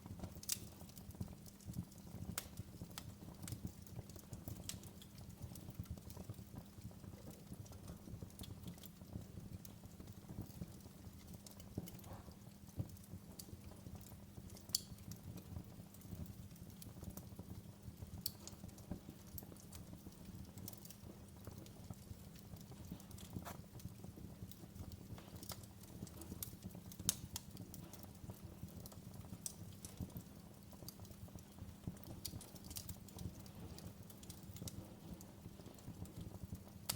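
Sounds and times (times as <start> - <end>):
low steady fire rumble: 0.0 - 36.9
wood fire popping and snapping: 0.0 - 36.9.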